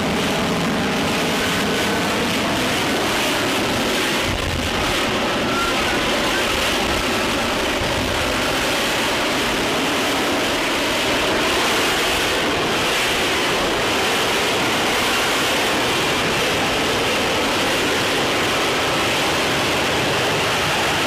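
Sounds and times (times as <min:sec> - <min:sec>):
jet engine rushing: 0:00.0 - 0:21.0.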